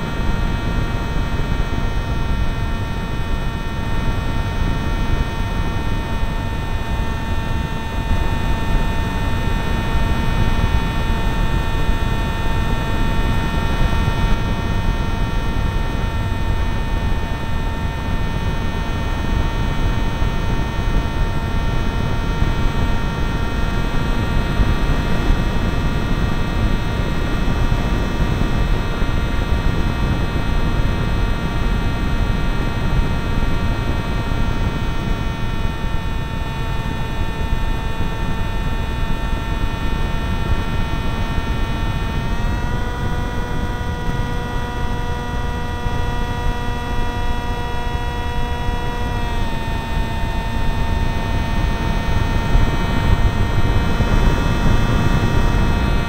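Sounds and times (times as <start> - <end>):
motor and propeller whine: 0.0 - 56.0.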